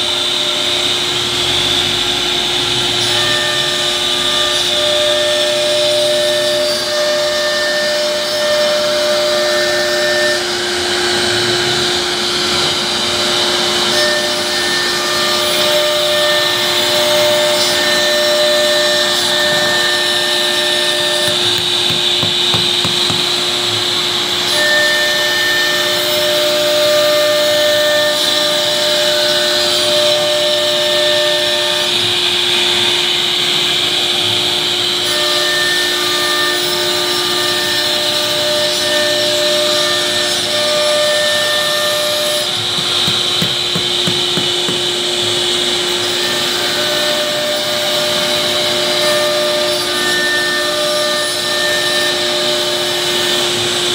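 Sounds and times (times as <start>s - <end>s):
cnc router spindle whine: 0.0s - 53.9s.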